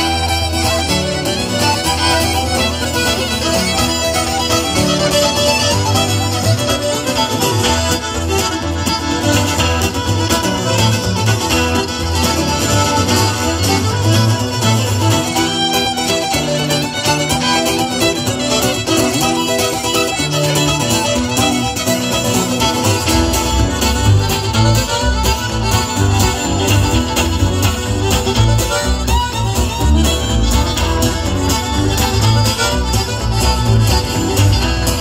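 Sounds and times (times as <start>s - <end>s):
acoustic guitar backing: 0.0s - 35.0s
button accordion: 0.0s - 35.0s
fiddle: 0.0s - 35.0s.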